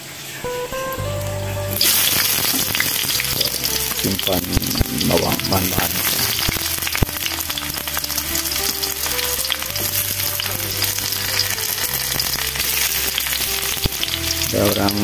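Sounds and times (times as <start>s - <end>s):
quiet background tune: 0.0s - 15.0s
garlic and ginger sizzling in oil: 1.7s - 15.0s.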